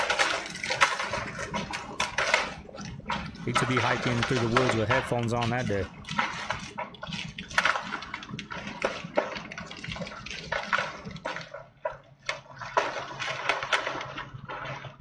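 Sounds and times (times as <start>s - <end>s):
rocks knocking together: 0.0s - 14.4s
rushing sloshing water: 0.0s - 15.0s.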